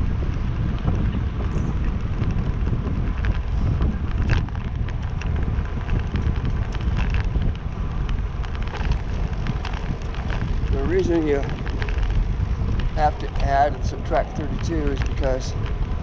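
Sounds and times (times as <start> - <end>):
bicycle ticks: 0.0 - 16.0
wind rushing over microphone: 0.0 - 16.0.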